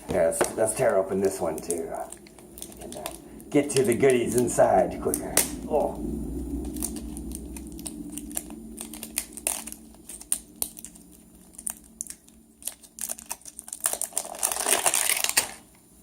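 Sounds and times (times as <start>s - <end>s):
plastic packaging crinkling: 0.0s - 5.9s, 6.6s - 15.8s.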